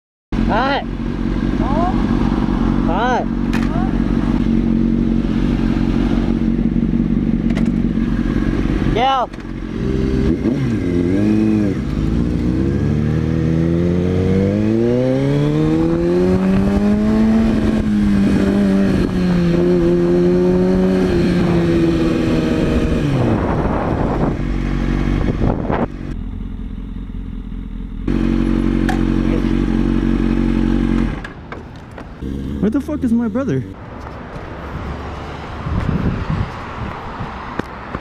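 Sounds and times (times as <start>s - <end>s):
motorcycle engine accelerating: 0.4s - 31.4s, 32.1s - 33.8s.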